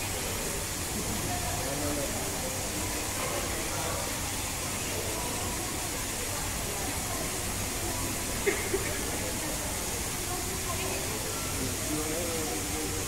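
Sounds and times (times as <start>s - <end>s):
background hiss: 0.0s - 13.0s
faint voices: 0.0s - 13.0s.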